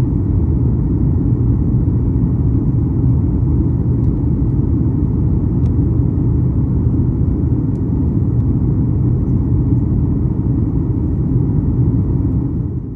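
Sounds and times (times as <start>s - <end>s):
jet engines and airflow rumble: 0.0s - 12.9s.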